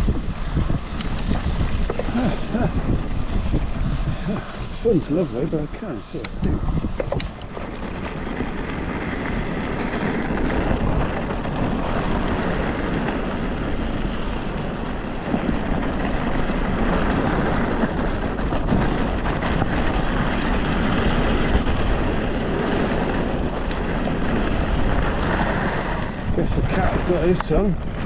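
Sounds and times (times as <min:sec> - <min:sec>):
bike rolling over rough track: 0:00.0 - 0:28.0.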